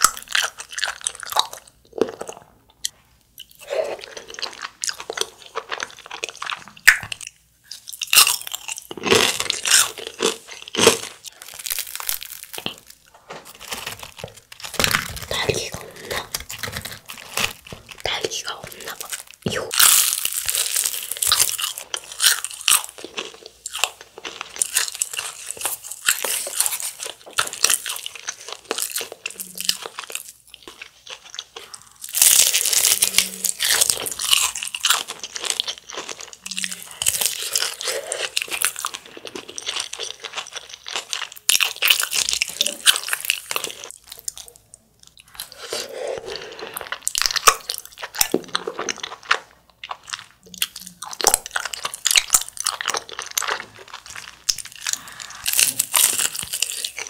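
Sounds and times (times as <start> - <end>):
crunching and chewing fried chicken: 0.0 - 57.0.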